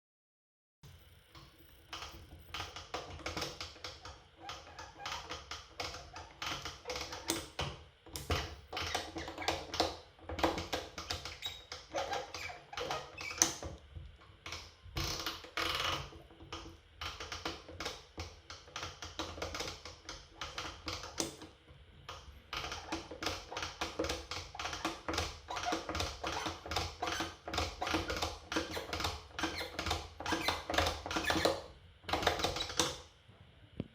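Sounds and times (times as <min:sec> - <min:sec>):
knob turning with rapid clicks: 0:01.3 - 0:13.8, 0:14.4 - 0:33.1.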